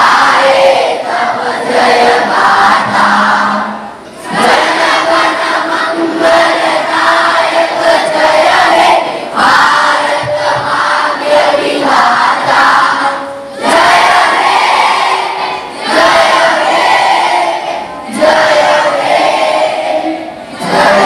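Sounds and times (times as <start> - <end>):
group singing in unison: 0.0 - 21.0.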